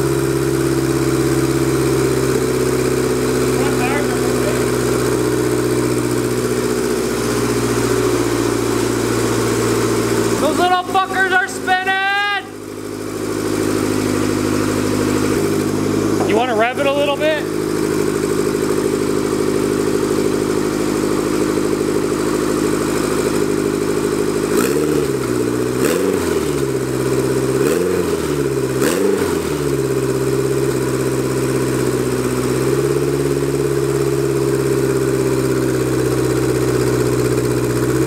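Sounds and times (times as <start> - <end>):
engine throttle blips: 0.0 - 38.0
turbocharged car engine idling: 0.0 - 38.0.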